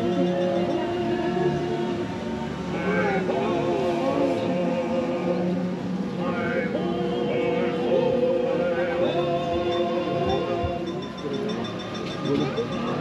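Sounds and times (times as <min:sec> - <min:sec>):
background music with voices singing: 0:00.0 - 0:13.0.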